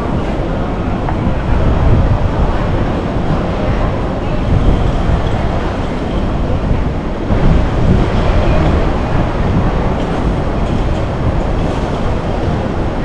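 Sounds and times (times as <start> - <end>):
street traffic rumble: 0.0 - 13.0
tram running on rails: 0.0 - 13.0.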